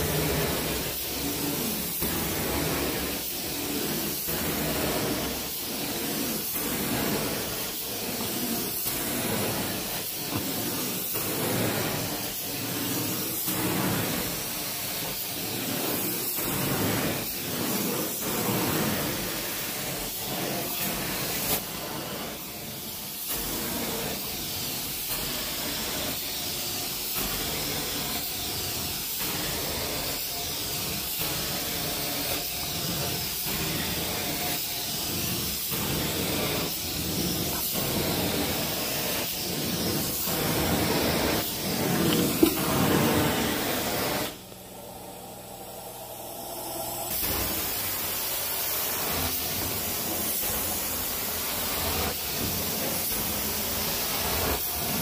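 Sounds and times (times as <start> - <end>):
carpet cleaner suction and spray: 0.0 - 55.0.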